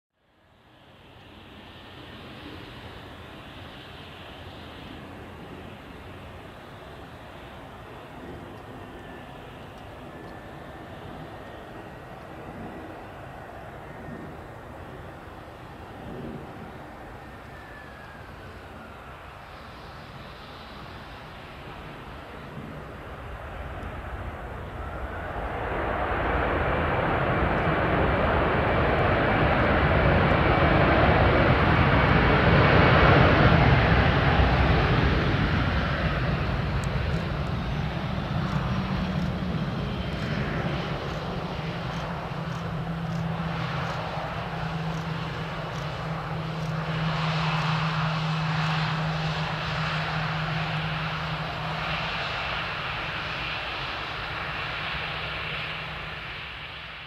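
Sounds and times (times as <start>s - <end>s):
jet engines roaring: 0.3s - 57.0s.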